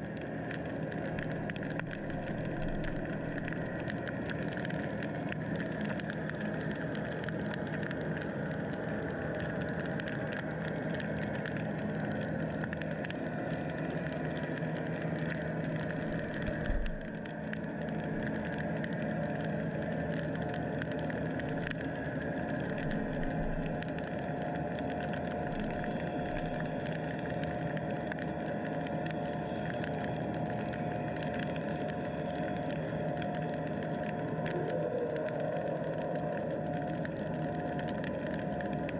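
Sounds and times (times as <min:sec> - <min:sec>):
distant boat engines underwater: 0:00.0 - 0:38.9
fine crackle: 0:00.0 - 0:38.9.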